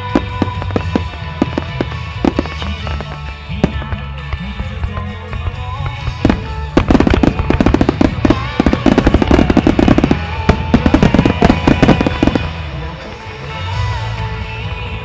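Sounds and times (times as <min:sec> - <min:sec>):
fireworks bangs and crackles: 0:00.0 - 0:13.4
music playing: 0:00.0 - 0:15.0.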